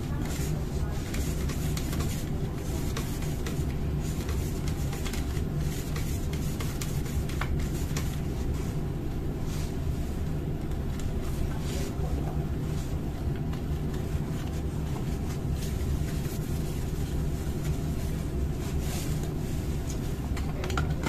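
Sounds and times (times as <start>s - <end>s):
cloth rubbing strokes: 0.0s - 20.4s.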